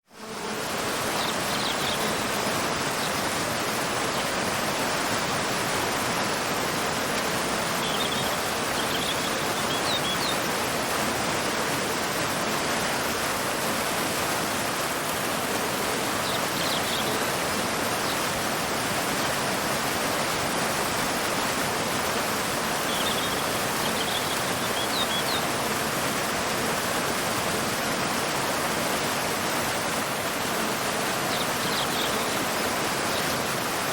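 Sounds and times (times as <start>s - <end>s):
water rushing: 0.1s - 33.9s.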